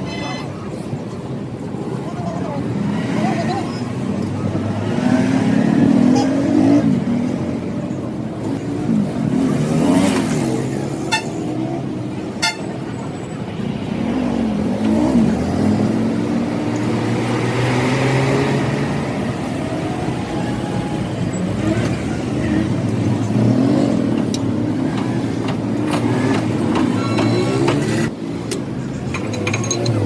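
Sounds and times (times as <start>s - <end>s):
vehicle engines revving: 0.0s - 30.0s.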